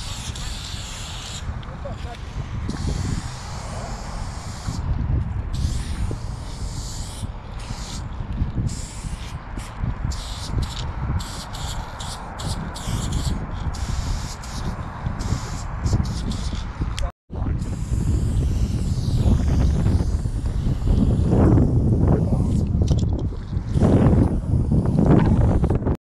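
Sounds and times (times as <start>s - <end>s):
spray paint can hissing: 0.0s - 16.9s, 17.6s - 25.8s
wind rumble on microphone: 0.0s - 26.0s.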